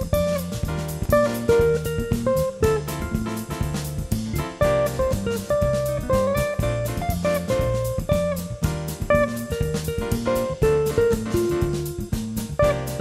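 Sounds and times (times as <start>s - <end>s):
drum kit beat: 0.0s - 13.0s
plucked guitar melody: 0.0s - 13.0s.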